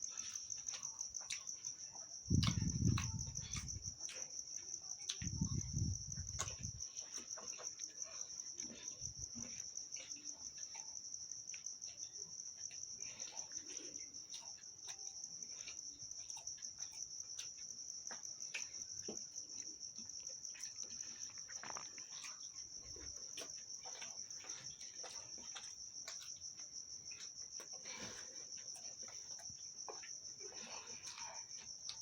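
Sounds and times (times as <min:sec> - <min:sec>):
crickets trilling: 0:00.0 - 0:32.0
person chewing food: 0:00.0 - 0:32.0.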